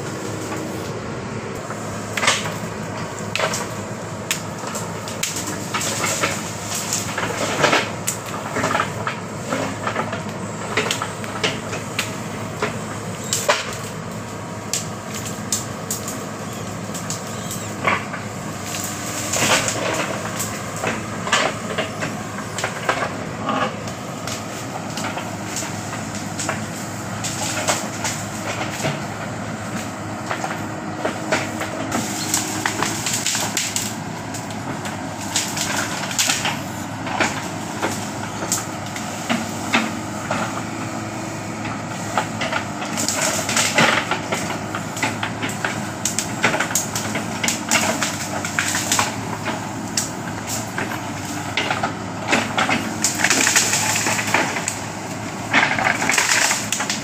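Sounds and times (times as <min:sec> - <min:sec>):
diesel engine running: 0:00.0 - 0:57.0
branches cracking and breaking: 0:01.6 - 0:57.0.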